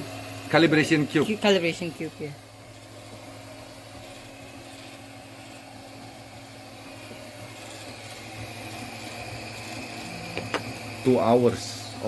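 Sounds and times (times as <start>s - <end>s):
printer fans and motors humming: 0.0s - 12.0s.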